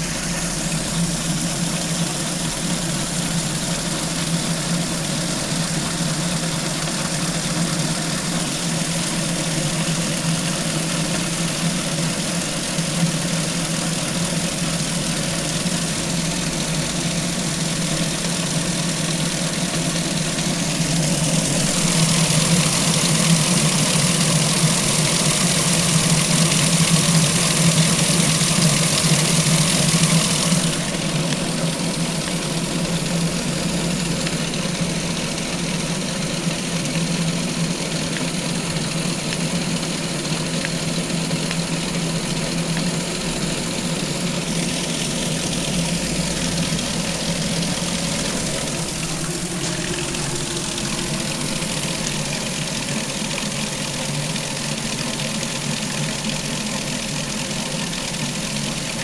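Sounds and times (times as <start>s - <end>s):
spinning wheel humming: 0.0s - 59.0s
water spraying and splattering: 0.0s - 59.0s.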